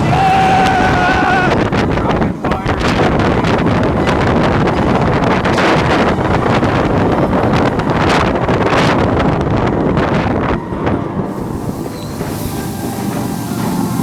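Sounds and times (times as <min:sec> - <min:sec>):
roller coaster running on track: 0:00.0 - 0:14.0
wind buffeting microphone: 0:00.0 - 0:14.0.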